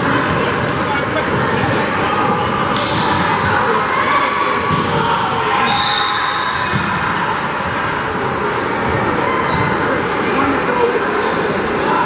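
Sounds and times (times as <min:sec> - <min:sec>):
crowd chatter: 0:00.0 - 0:12.0.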